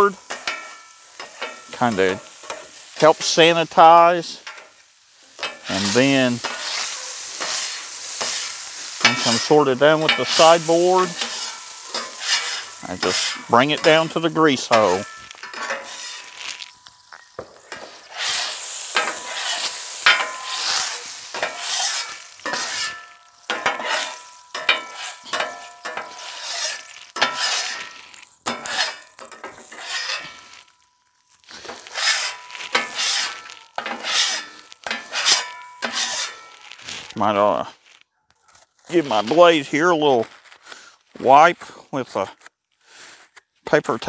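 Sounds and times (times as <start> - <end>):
metal scraper scraping griddle: 0.0 - 37.2
water sizzling on hot plate: 0.0 - 37.2.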